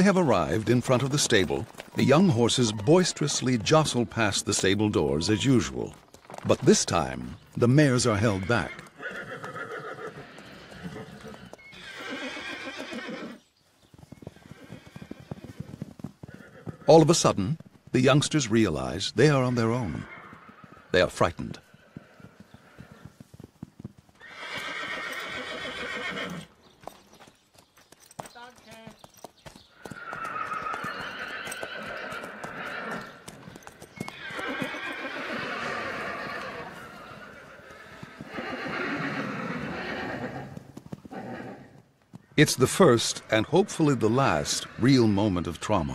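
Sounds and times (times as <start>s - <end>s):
horses whinnying: 0.0s - 13.4s, 14.1s - 17.2s, 19.2s - 23.3s, 24.2s - 26.6s, 29.7s - 45.9s
hoofbeats of galloping foals: 0.0s - 45.9s
hooves clicking on ground: 0.0s - 45.9s.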